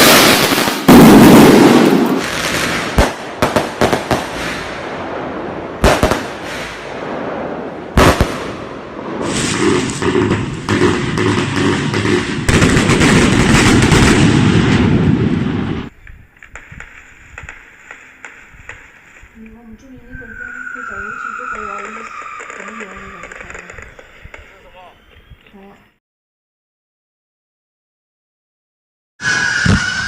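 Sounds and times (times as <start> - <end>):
fireworks crackling and banging: 0.0 - 24.9.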